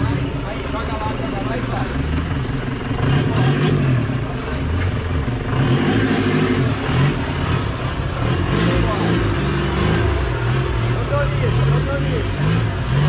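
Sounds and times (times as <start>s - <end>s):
jeep engine revving: 0.0s - 13.0s.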